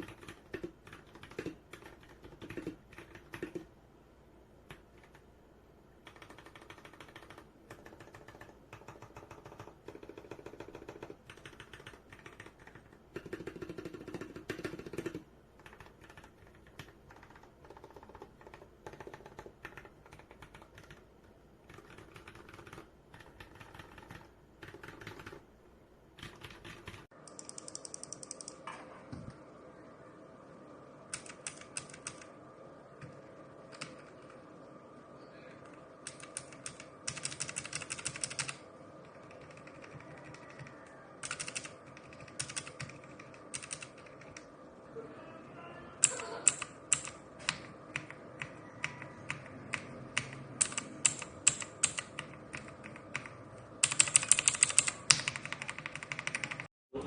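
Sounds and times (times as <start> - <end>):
typing on mechanical keyboard: 0.0 - 3.7, 4.7 - 5.2, 6.0 - 25.4, 26.2 - 28.6, 31.1 - 32.3, 33.0 - 34.4, 35.6 - 44.5, 46.0 - 56.7
steady hum: 0.0 - 57.0.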